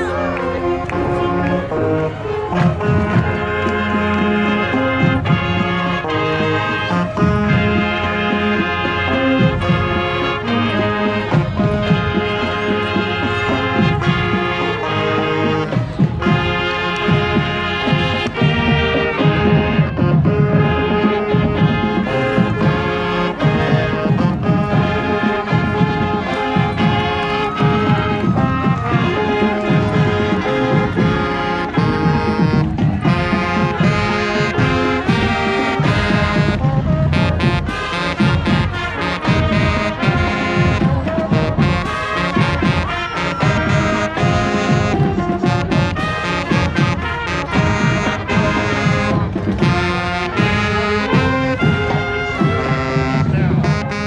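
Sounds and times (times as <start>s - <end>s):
brass instruments playing melody: 0.0s - 54.0s
marching drums: 0.0s - 54.0s.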